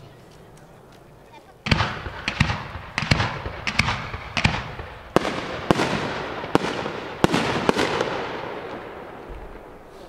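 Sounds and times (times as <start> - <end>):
firework crackle and rumble: 0.0 - 10.0.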